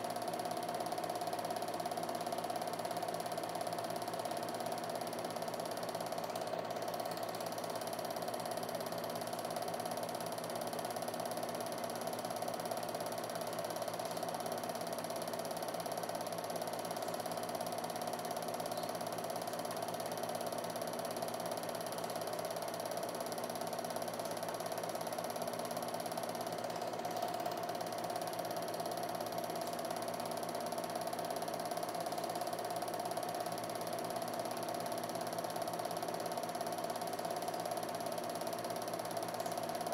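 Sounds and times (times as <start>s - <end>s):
film projector whirring and clattering: 0.0s - 39.9s
steady hum: 0.0s - 39.9s.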